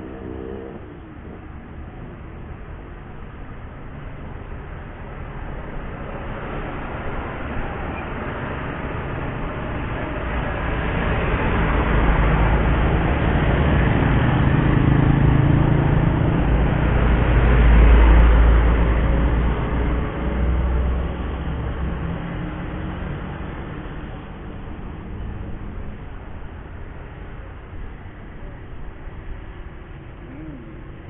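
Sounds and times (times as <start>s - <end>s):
motorcycles passing: 0.0s - 27.6s
car passing: 0.0s - 31.0s
trucks driving by: 0.0s - 31.0s.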